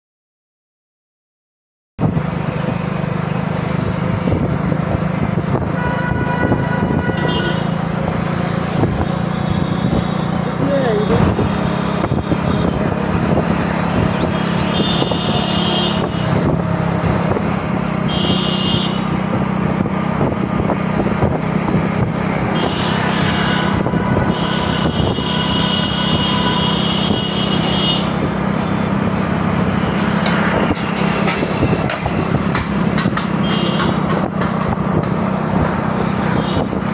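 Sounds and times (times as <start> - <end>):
engine hum: 2.0 - 36.9
road noise: 2.0 - 36.9.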